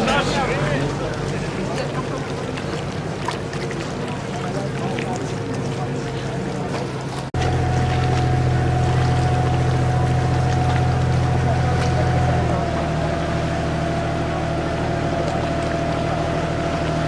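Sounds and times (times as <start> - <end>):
boat motor humming with whine: 0.0 - 17.0.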